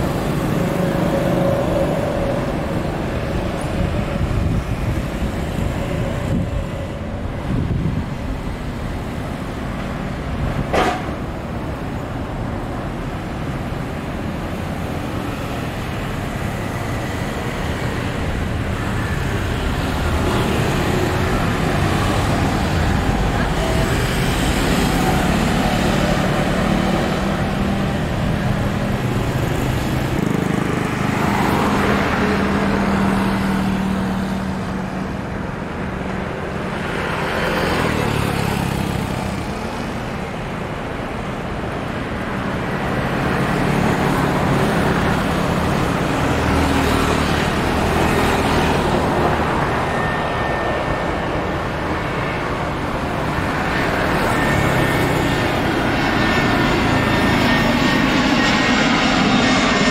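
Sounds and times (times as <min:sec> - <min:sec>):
road traffic noise: 0:00.0 - 0:59.9
vehicles passing close by: 0:00.0 - 0:59.9.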